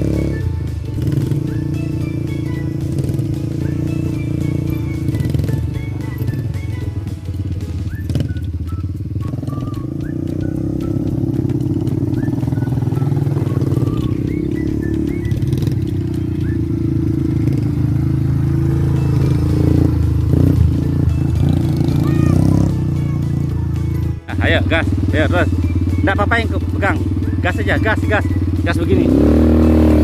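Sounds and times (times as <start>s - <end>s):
quad bike engine running: 0.0s - 30.0s.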